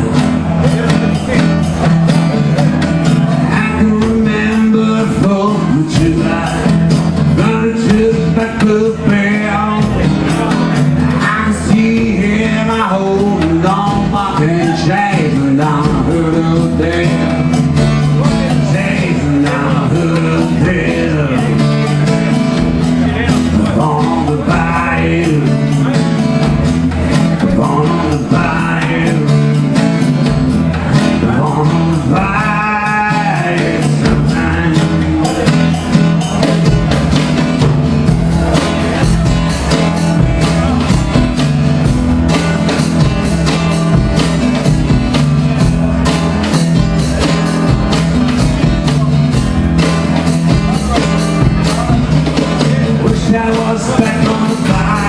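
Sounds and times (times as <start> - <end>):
acoustic guitar: 0.0 - 55.0
drums playing a steady beat: 0.0 - 55.0.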